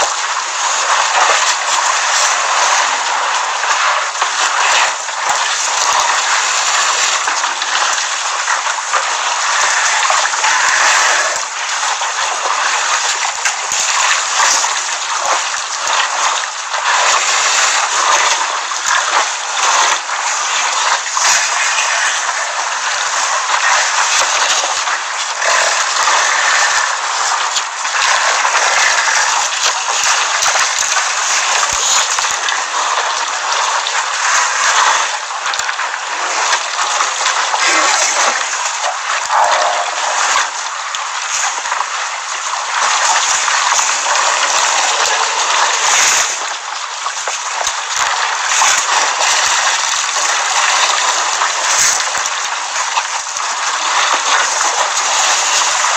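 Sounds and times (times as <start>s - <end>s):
water splashing and sloshing: 0.0s - 55.9s.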